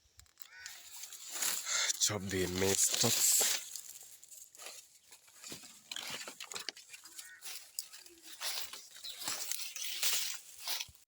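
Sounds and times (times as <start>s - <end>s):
dry maize stalks crunching: 0.1s - 11.0s
dry leaves rustling: 0.3s - 11.0s.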